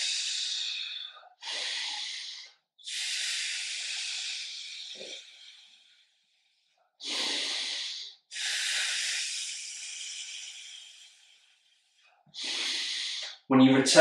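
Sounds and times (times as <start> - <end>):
man breathing hissing: 0.0 - 6.2, 7.0 - 13.5.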